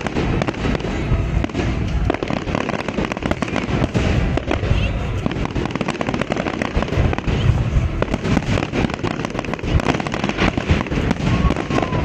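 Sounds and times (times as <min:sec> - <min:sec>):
fireworks bangs and crackling: 0:00.0 - 0:12.0
low rumble: 0:00.0 - 0:12.0.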